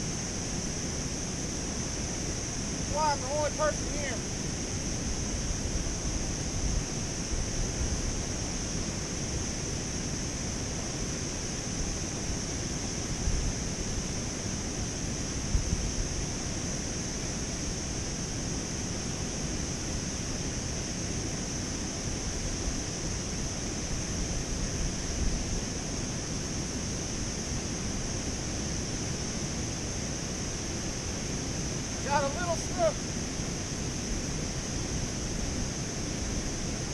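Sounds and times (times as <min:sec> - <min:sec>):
high hiss: 0:00.0 - 0:36.9.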